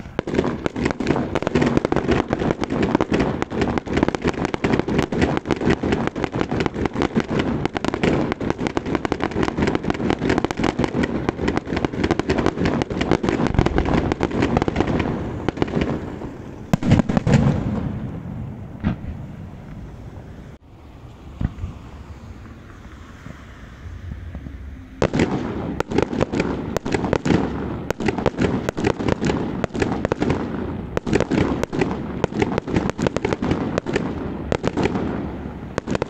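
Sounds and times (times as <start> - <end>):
fireworks crackling and bursting: 0.0 - 20.6, 21.2 - 36.0.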